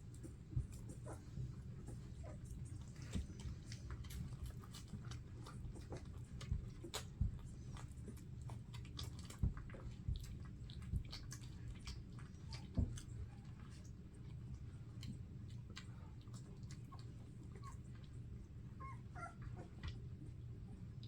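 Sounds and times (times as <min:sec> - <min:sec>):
low steady background hum: 0:00.0 - 0:21.0.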